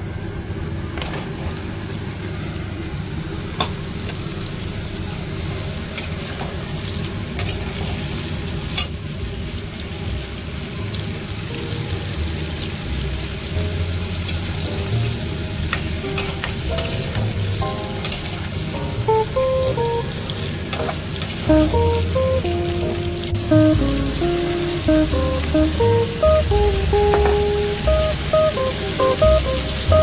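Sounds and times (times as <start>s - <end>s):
food sizzling in a pan: 1.7s - 30.0s.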